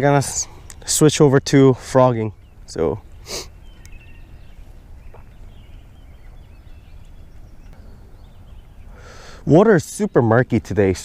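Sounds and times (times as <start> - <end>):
low steady rumble: 0.0 - 9.1
distant birds calling: 0.0 - 11.0.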